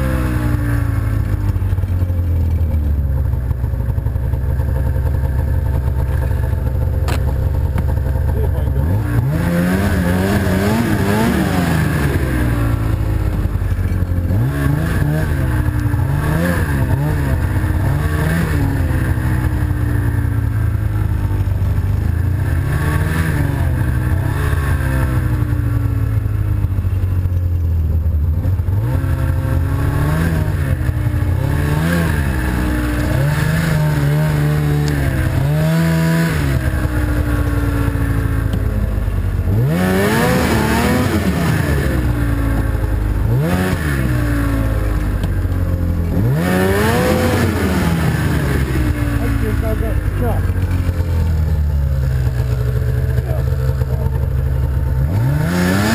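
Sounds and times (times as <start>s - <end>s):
snowmobile engine revving: 0.0s - 27.3s, 28.2s - 55.9s.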